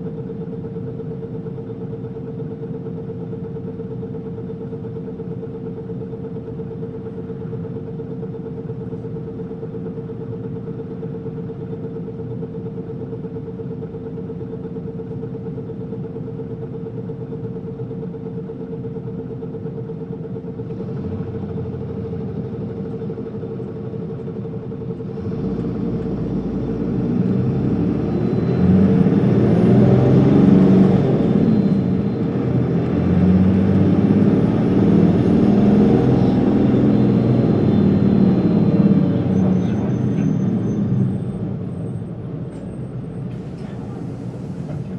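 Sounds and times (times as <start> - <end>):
bus diesel engine: 0.0 - 44.9.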